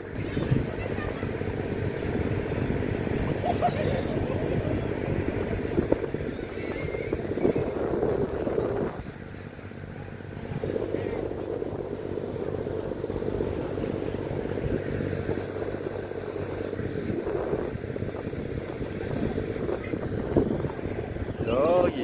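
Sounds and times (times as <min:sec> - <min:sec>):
ferry engine drone: 0:00.0 - 0:22.0
water noise: 0:00.0 - 0:22.0
wind: 0:00.0 - 0:22.0.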